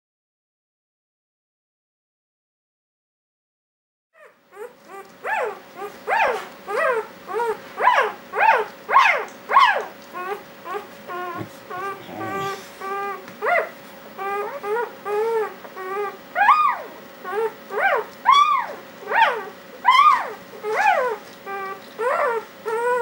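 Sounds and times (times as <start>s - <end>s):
puppy squealing cries: 4.2s - 23.0s.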